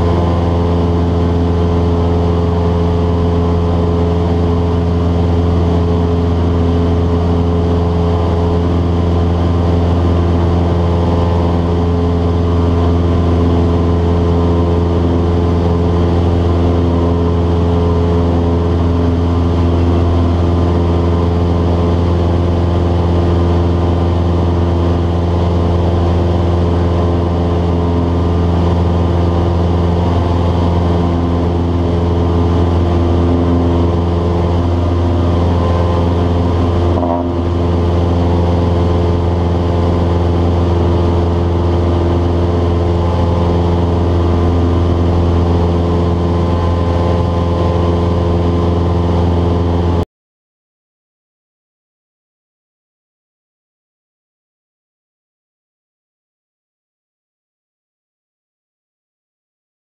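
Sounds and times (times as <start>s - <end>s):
propeller plane engine droning: 0.0s - 50.0s.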